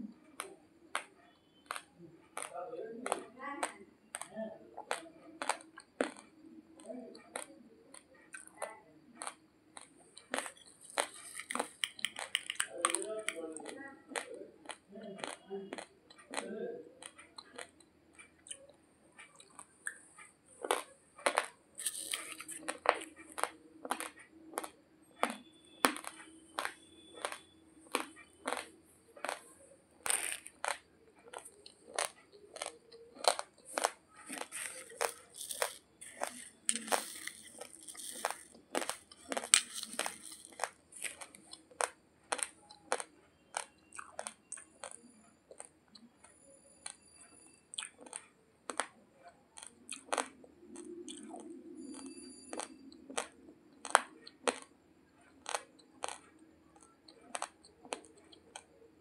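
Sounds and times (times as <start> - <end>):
dry crunchy chewing: 0.2 - 59.0.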